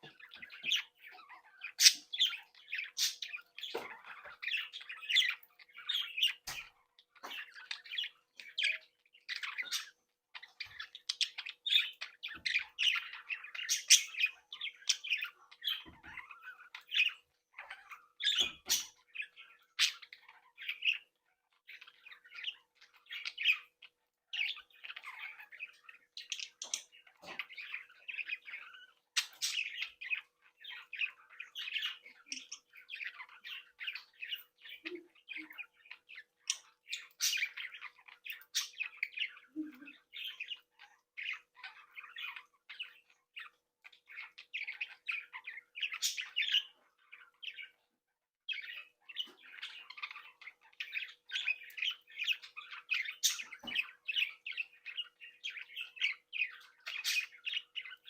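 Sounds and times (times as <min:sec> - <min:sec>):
budgerigars chattering: 0:00.0 - 0:47.8, 0:48.5 - 0:58.0.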